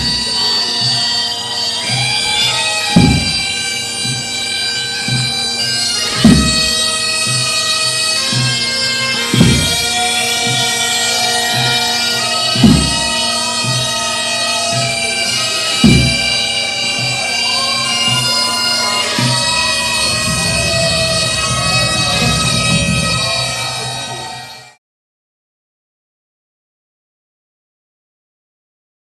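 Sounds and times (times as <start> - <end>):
bagpipes playing: 0.0 - 24.8
drum beats: 0.0 - 24.8.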